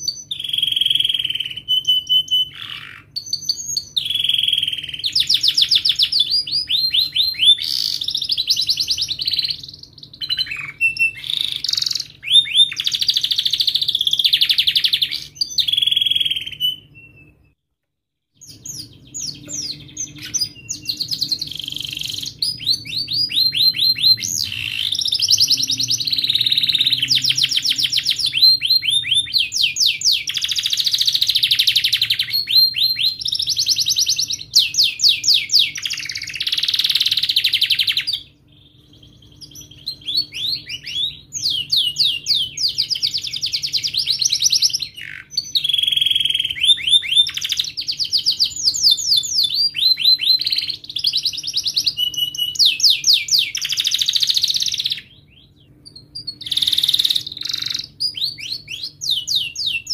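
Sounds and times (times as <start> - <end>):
canary singing trills: 0.0 - 17.6, 18.4 - 59.9.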